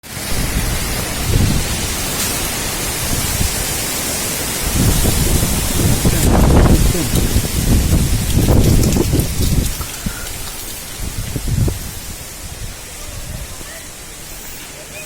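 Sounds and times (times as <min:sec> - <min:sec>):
rain: 0:00.0 - 0:15.0
strong gusting wind: 0:00.0 - 0:15.0.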